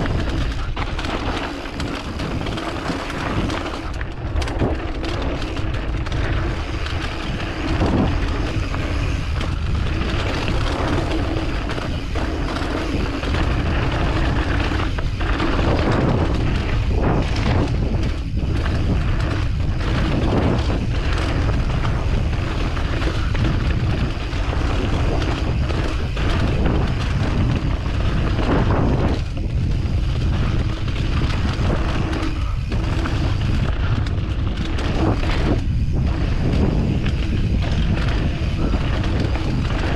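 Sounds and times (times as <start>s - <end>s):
bike knocking and rattling: 0.0s - 39.9s
tyres on dirt: 0.0s - 39.9s
wind buffeting microphone: 0.0s - 39.9s.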